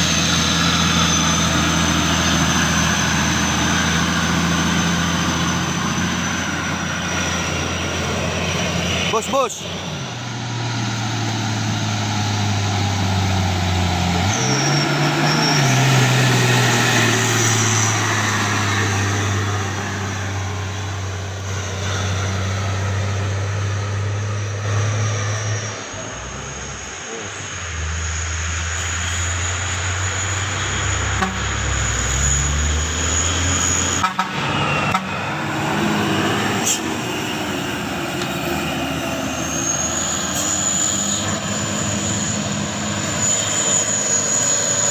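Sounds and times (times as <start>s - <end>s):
diesel trucks engines under load: 0.0s - 44.9s
tyre and road noise: 0.0s - 44.9s.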